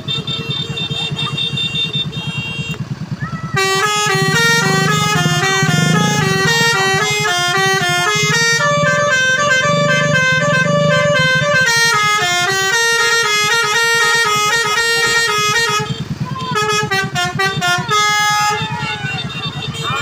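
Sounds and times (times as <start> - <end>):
bus horn playing a melody: 0.0 - 2.9, 3.5 - 20.0.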